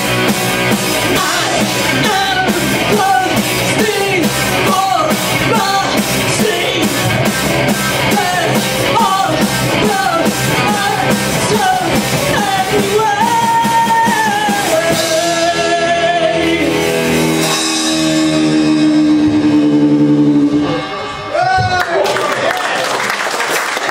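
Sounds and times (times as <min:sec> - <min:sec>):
electric guitars: 0:00.0 - 0:22.2
drums: 0:00.0 - 0:23.9.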